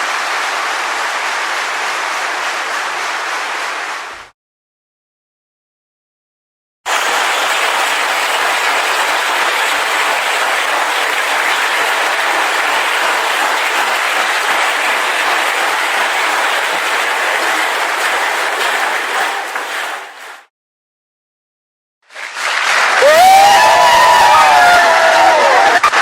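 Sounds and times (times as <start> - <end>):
audience applause: 0.0 - 4.3, 6.9 - 20.5, 22.1 - 26.0.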